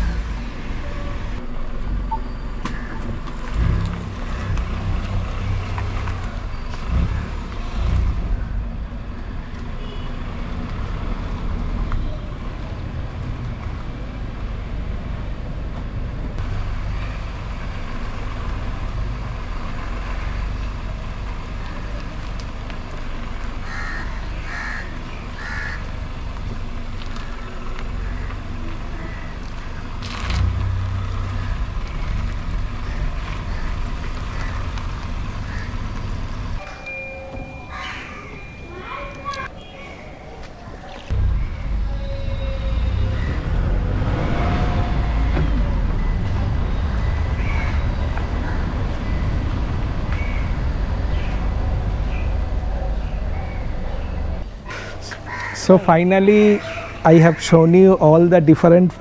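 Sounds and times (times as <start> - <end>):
low rumble of tyre and road noise: 0.0 - 59.0.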